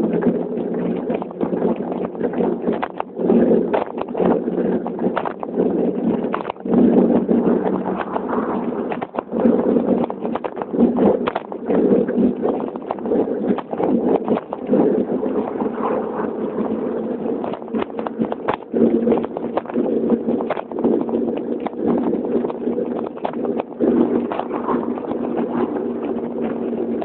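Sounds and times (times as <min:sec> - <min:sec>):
bicycle rattling over road: 0:00.0 - 0:27.0
wind buffeting microphone: 0:00.0 - 0:27.0.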